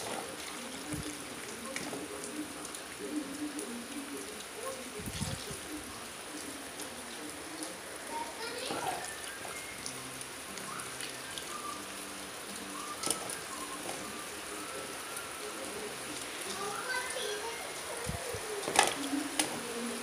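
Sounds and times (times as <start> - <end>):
water dripping and splashing: 0.0 - 20.0.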